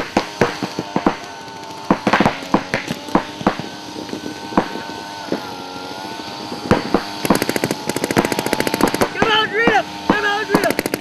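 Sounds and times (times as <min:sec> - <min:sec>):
paintball markers firing: 0:00.0 - 0:05.5, 0:06.4 - 0:11.0
steady hum: 0:00.0 - 0:11.0.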